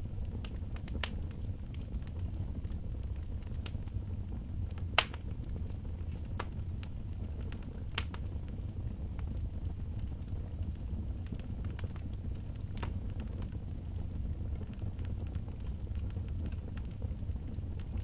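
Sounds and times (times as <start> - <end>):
sharp fire pops: 0.0 - 4.0, 4.6 - 18.0
wood fire crackling: 0.0 - 18.0.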